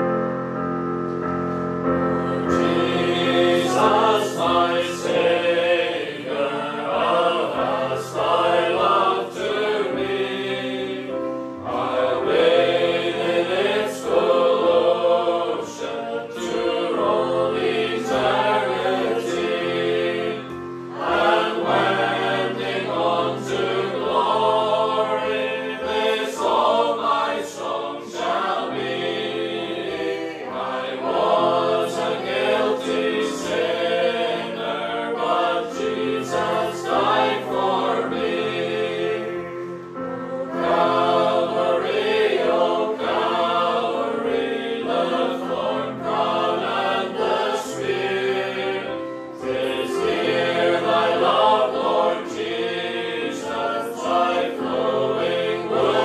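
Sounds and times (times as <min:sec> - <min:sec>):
choir singing a hymn: 0:00.0 - 0:56.0
electronic keyboard: 0:00.0 - 0:56.0.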